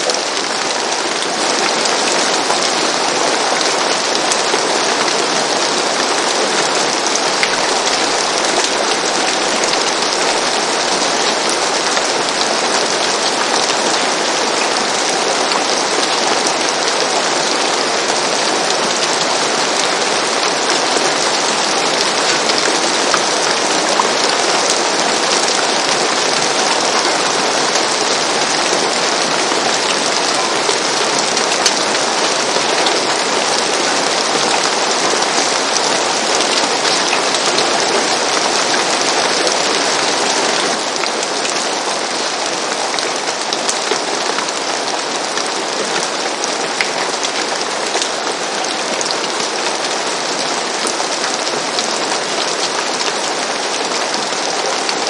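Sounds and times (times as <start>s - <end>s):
rain falling on a roof: 0.0s - 55.0s.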